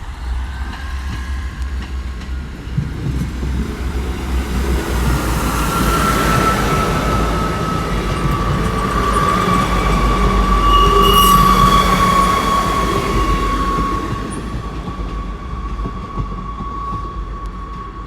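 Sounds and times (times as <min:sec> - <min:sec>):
low engine rumble: 0:00.0 - 0:17.9
train wheels squealing: 0:00.6 - 0:18.0.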